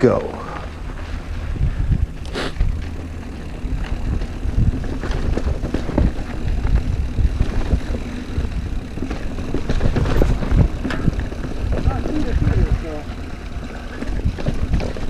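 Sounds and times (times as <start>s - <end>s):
mountain bike rattling on trail: 0.0s - 15.0s
wind buffeting microphone: 0.7s - 15.0s.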